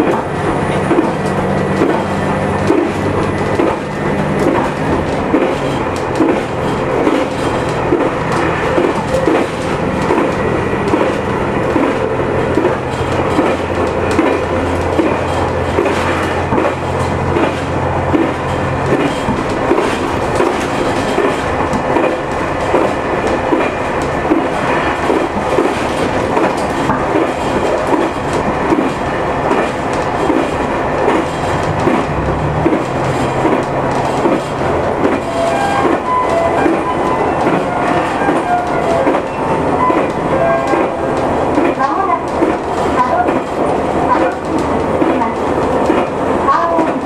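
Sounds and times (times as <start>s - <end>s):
train wheels clacking over rail joints: 0.0s - 47.0s.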